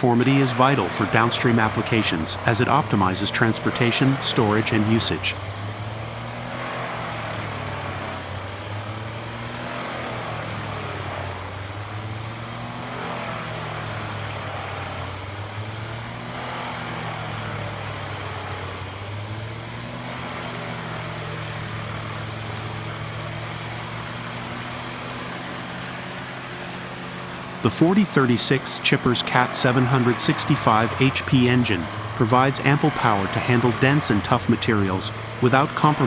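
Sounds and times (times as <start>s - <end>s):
diesel engine running: 0.0s - 36.0s
wood chipper drum chipping: 0.0s - 36.0s.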